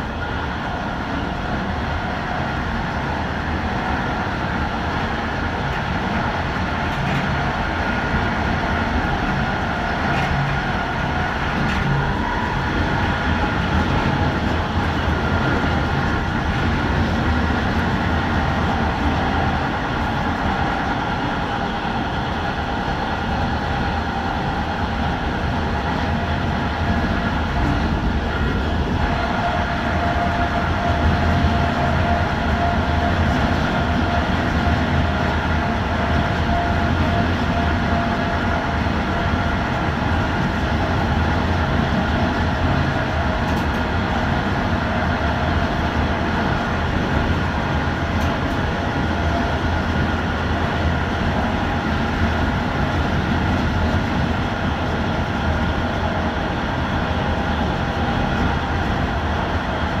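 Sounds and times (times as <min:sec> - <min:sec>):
steady train hum: 0:00.0 - 1:00.0
train wheels rolling on rails: 0:00.0 - 1:00.0.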